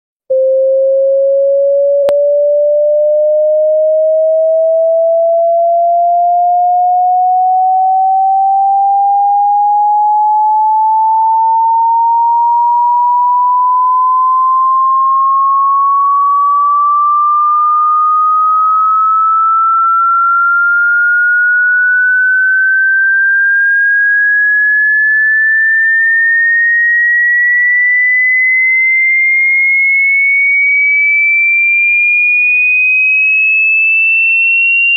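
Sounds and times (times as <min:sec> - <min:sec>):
electronic tone rising in pitch: 0:00.3 - 0:28.7.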